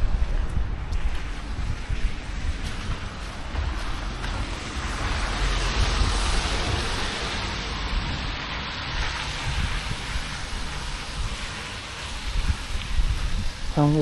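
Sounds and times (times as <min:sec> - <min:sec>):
steady rushing hiss: 0:00.0 - 0:14.0
wind buffeting microphone: 0:00.0 - 0:14.0.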